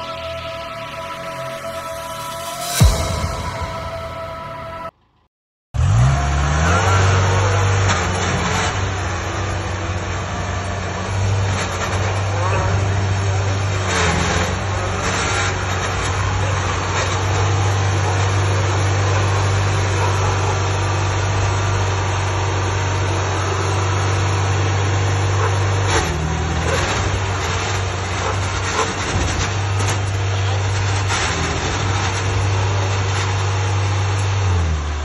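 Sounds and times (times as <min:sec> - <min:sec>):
combine harvester diesel engine: 0:00.0 - 0:04.9, 0:05.8 - 0:35.0.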